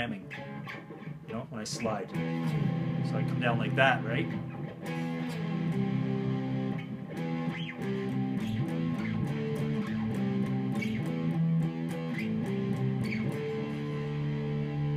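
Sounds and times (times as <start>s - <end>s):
electric guitar chords: 0.0s - 14.9s.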